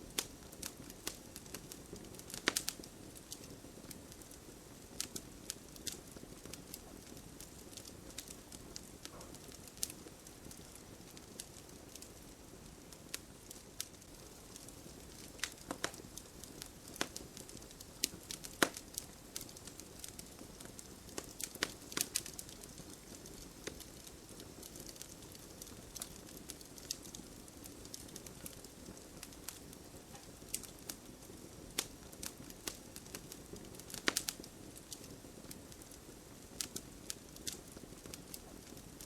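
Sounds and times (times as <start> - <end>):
campfire wood crackling: 0.0 - 39.0.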